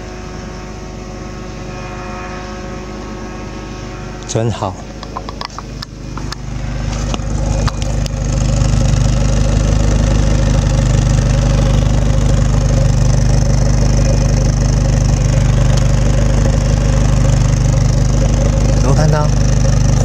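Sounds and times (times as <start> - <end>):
car engine idling: 3.0 - 20.0.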